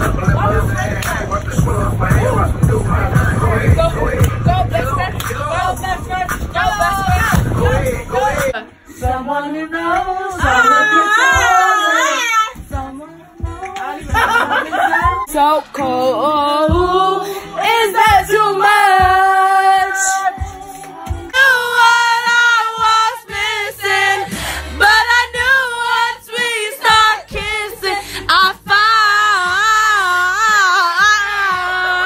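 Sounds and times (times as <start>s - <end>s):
young female voices singing: 0.0s - 32.0s.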